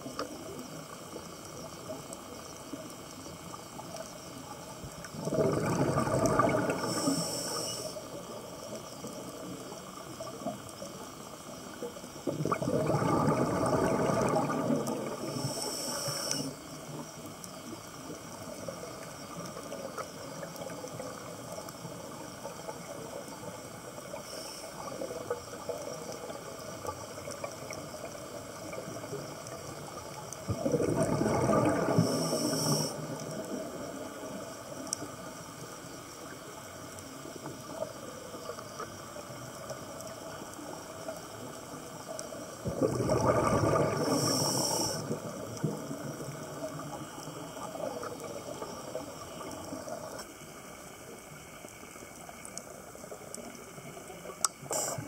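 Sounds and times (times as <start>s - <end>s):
exhaled bubbles rushing underwater: 0.0s - 54.9s
steady underwater hiss: 0.0s - 55.0s.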